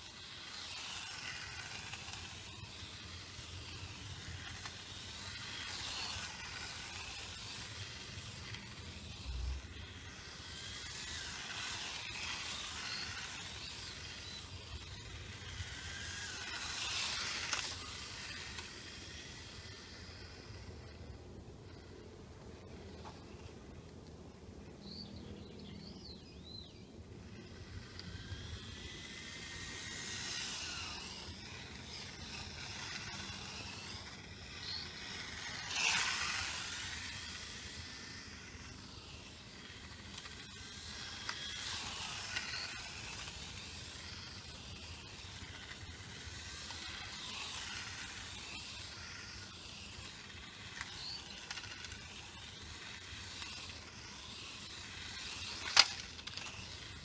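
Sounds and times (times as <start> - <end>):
tyre hiss on asphalt: 0.0 - 20.6, 27.3 - 57.0
electric motor whine: 0.0 - 22.0, 27.2 - 57.0.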